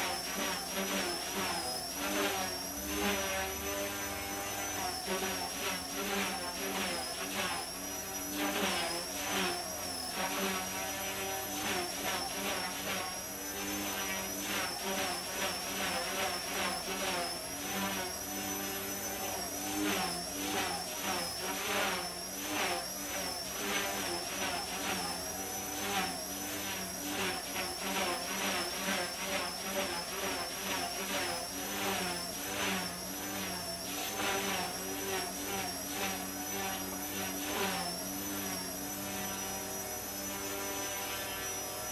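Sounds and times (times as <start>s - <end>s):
high-pitched motor whine: 0.0s - 41.9s
rotor blades buzzing: 0.0s - 41.9s.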